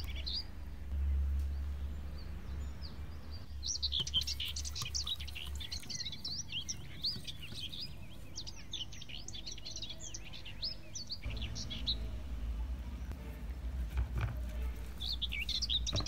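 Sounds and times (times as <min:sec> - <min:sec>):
low hum: 0:00.0 - 0:09.1, 0:11.0 - 0:16.0
small birds chirping: 0:00.0 - 0:16.0.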